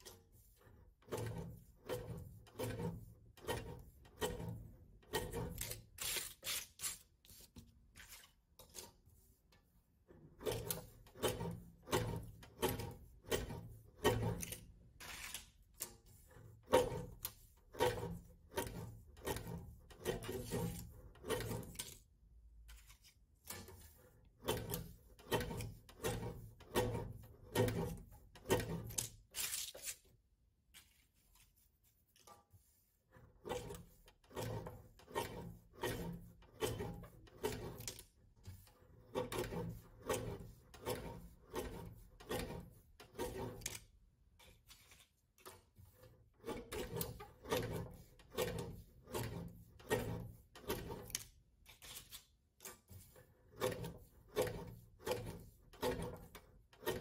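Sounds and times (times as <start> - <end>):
scraping strokes on table: 0.0 - 30.1, 30.7 - 57.0.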